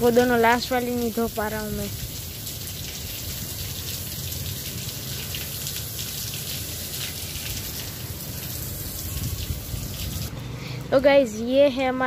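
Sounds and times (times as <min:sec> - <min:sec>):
hose water spraying on glass: 0:00.1 - 0:10.3.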